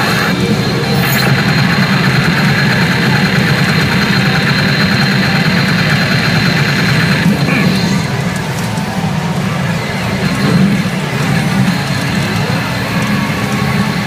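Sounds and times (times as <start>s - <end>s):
rapid ticking pulse: 0.0s - 14.0s.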